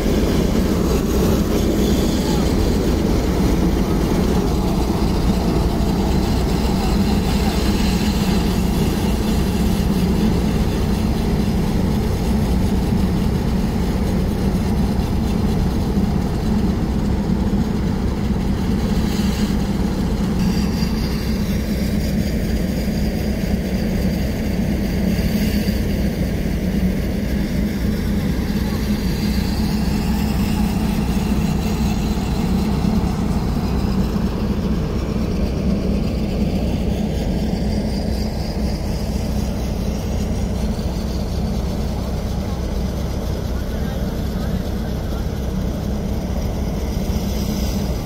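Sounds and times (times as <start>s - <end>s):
tractor-driven thresher drone: 0.0s - 48.0s.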